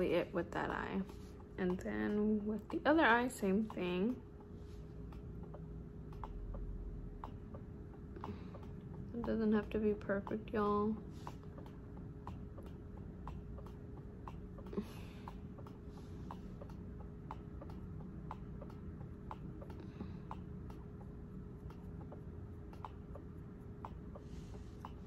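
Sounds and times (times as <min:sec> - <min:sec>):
faint even ticking: 0:00.0 - 0:25.0
steady low hum: 0:00.0 - 0:25.0.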